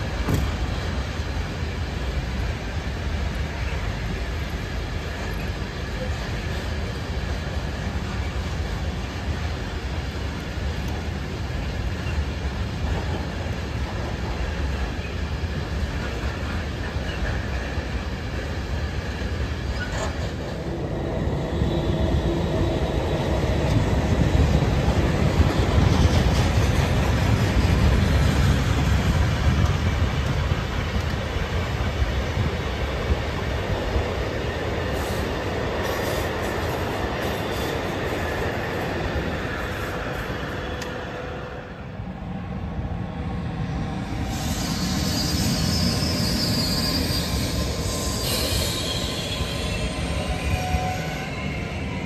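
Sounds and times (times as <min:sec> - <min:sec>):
train running on track: 0:00.0 - 0:52.0.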